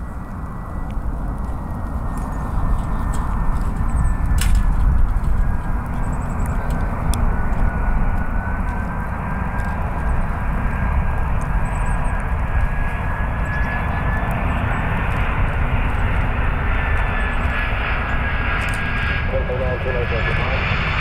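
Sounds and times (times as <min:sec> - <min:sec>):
jet airliner engines droning: 0:00.0 - 0:21.0.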